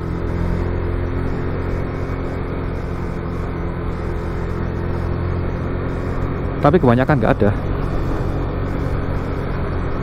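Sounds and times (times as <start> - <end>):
motorcycle engine cruising: 0.0 - 10.0
road and wind noise: 0.0 - 10.0.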